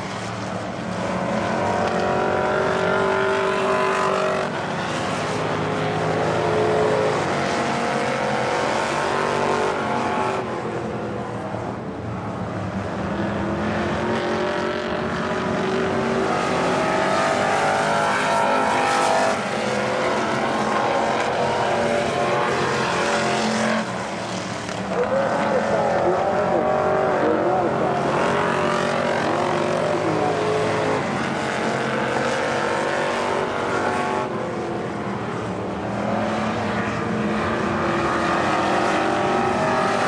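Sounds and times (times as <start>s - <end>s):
stock car engine running hard: 0.0s - 40.0s.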